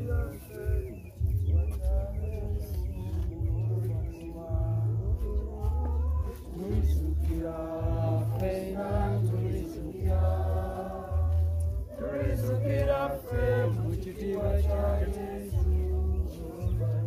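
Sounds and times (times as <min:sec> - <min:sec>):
group singing a hymn: 0:00.0 - 0:17.0
low beat: 0:00.0 - 0:17.0.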